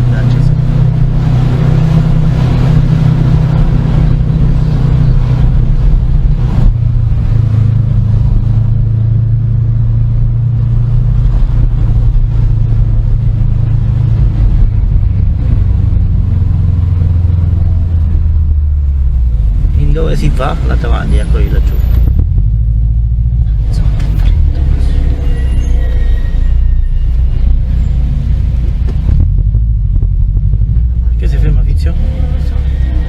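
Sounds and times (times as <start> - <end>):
car engine droning: 0.0 - 33.0
road noise: 0.0 - 33.0.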